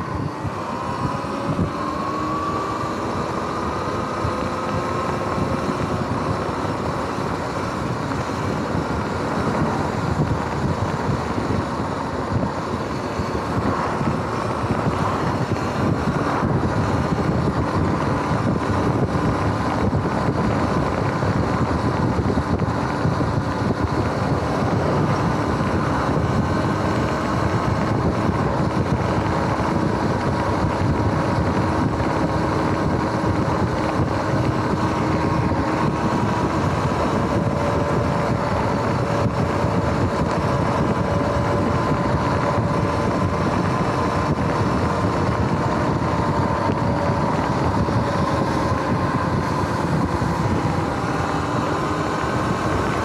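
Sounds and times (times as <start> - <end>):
electric motor whine: 0.0 - 53.0
road noise: 0.0 - 53.0
wind rushing over microphone: 0.0 - 53.0.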